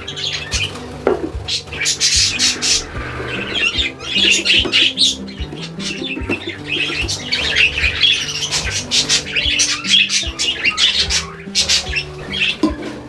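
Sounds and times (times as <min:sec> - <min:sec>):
background music low melody: 0:00.0 - 0:13.0
budgerigars chattering and squawking: 0:00.0 - 0:13.0.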